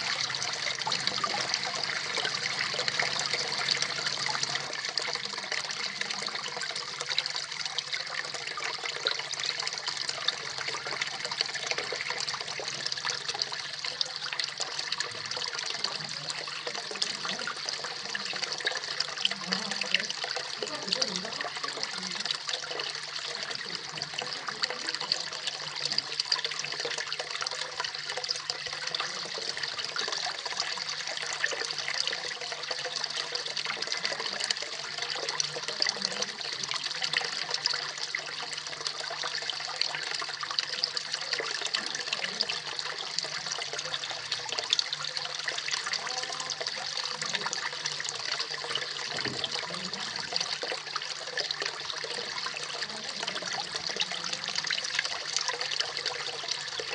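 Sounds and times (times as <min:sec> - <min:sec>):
small waterfall splashing: 0:00.0 - 0:56.9.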